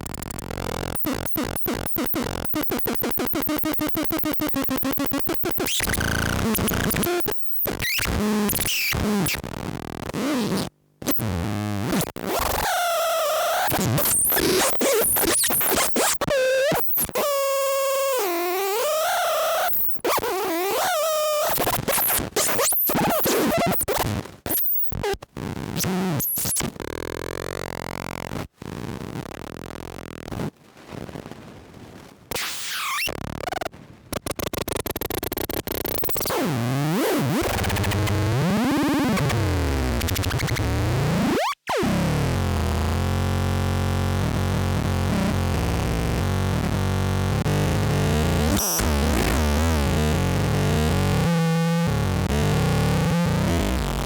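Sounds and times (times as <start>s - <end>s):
glitchy electronic noise synth: 0.0s - 10.4s, 11.1s - 25.2s, 32.3s - 54.0s.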